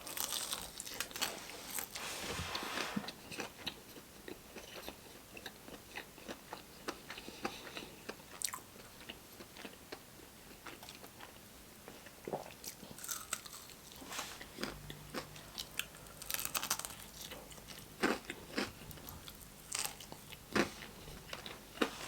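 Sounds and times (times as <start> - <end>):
person chewing crunchy food: 0.0 - 2.0, 3.1 - 22.0.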